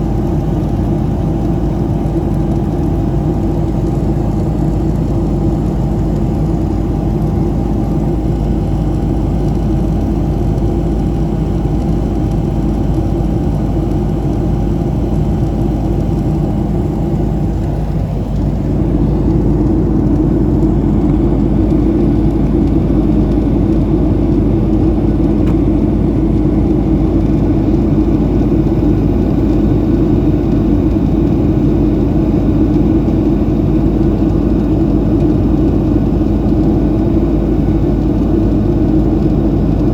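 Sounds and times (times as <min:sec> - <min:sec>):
airplane cabin engine noise: 0:00.0 - 0:39.9
faint steady hum: 0:00.0 - 0:39.9.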